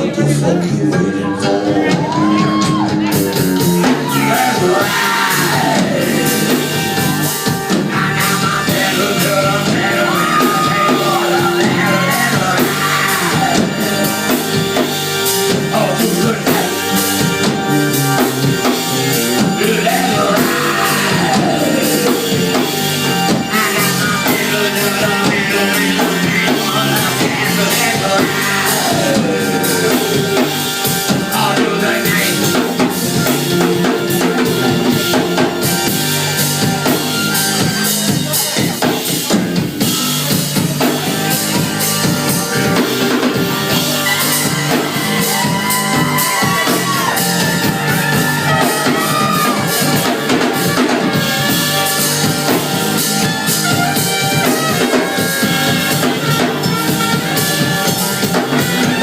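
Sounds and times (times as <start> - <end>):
rock soul band music: 0.0 - 59.0.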